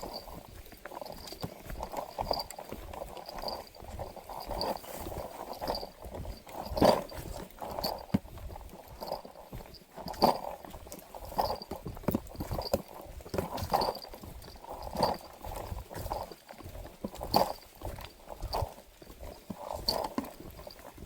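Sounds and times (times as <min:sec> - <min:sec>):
footsteps on wet ground: 0:00.0 - 0:21.0.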